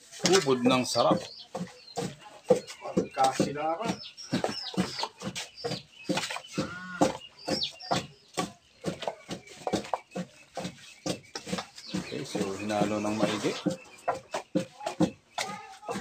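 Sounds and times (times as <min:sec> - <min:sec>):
chicken clucking: 0:00.0 - 0:16.0.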